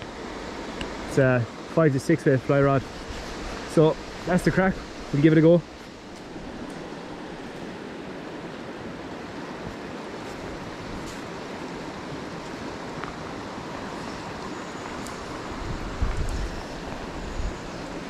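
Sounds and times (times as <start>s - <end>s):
river water flowing over stones: 0.0s - 18.0s.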